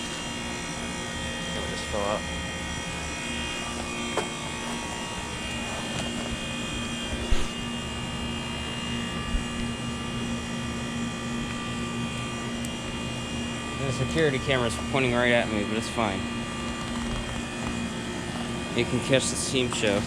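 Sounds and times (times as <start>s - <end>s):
compressor hum: 0.0s - 20.0s
constant whine: 0.0s - 20.0s.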